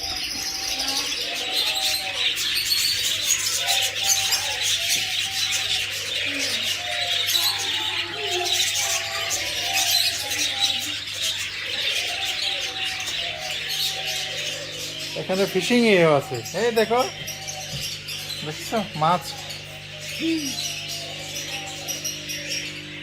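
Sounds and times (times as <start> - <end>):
birds cooing: 0.0 - 23.0
caged birds chirping: 0.0 - 23.0.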